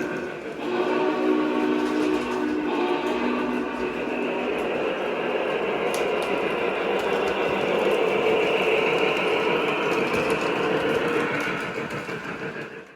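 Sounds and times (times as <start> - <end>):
model train running on track: 0.0 - 12.9.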